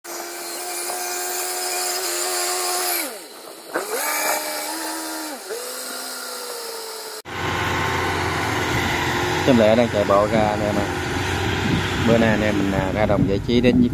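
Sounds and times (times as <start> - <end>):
small engine whining: 0.1 - 13.2.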